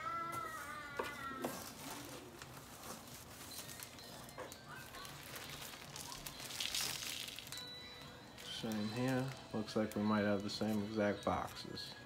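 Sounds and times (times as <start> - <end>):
plastic and cardboard rustling: 0.1 - 11.6
loud plastic crinkle: 0.5 - 10.8.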